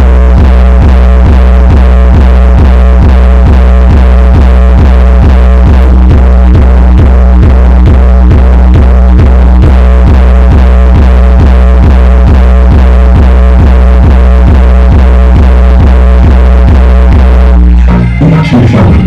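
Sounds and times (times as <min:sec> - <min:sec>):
bass-heavy electronic music: 0:00.0 - 0:19.0.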